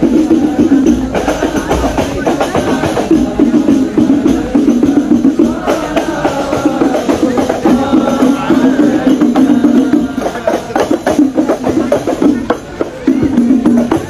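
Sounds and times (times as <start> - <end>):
frame drums beaten: 0.0 - 14.0
voices singing: 0.0 - 14.0.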